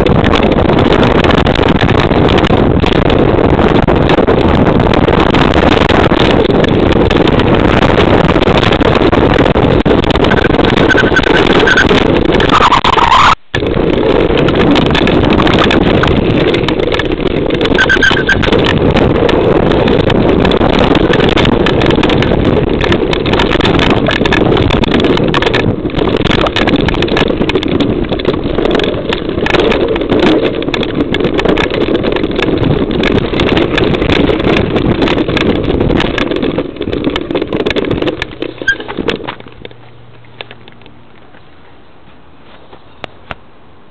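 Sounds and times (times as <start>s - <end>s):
bike rattling and knocking: 0.0s - 43.5s
wind rushing over microphone: 0.0s - 43.9s.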